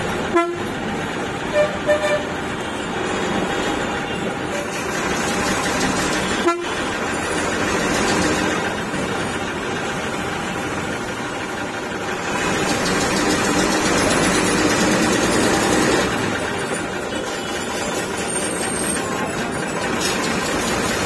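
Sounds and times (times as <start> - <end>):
bus engine running: 0.0 - 21.0
city traffic: 0.0 - 21.0.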